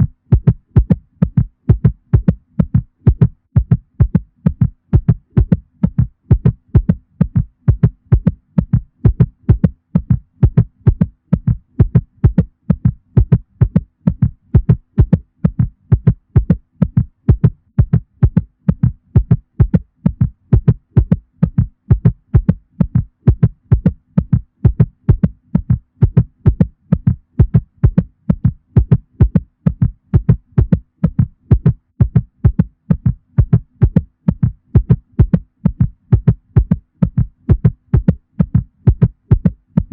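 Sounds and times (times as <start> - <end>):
fast heartbeat: 0.0 - 39.9.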